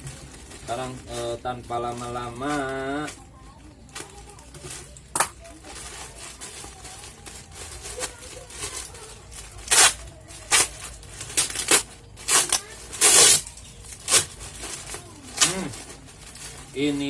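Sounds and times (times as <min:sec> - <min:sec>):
plastic packaging tearing and crinkling: 0:00.0 - 0:17.0.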